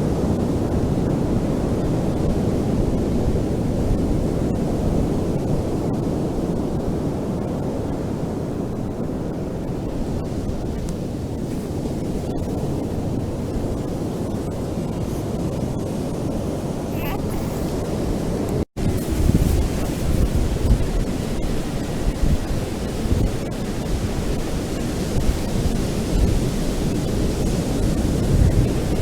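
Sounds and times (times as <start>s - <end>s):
ocean surf on a beach: 0.1s - 29.0s.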